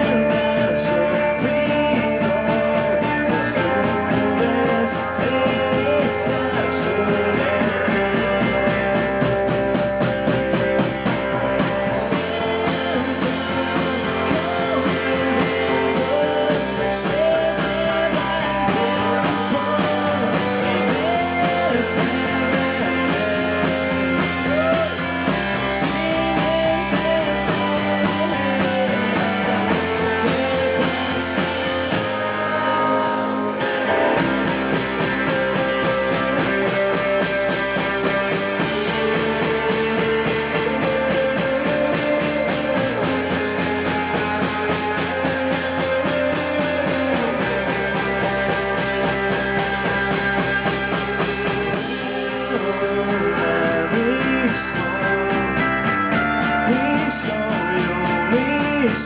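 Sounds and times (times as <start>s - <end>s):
guitar lead line bending in pitch: 0.0s - 59.0s
rock band playing: 0.0s - 59.0s.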